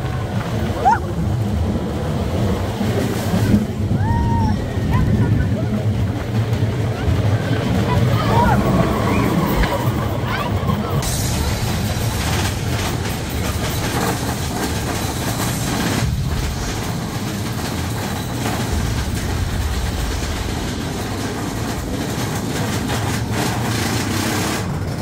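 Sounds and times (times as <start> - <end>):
amusement ride rumbling and rattling: 0.0 - 25.0.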